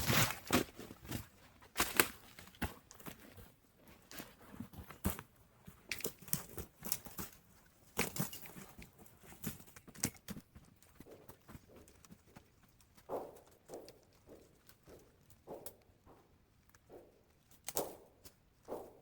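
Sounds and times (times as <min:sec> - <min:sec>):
crunching steps: 0:00.0 - 0:19.0.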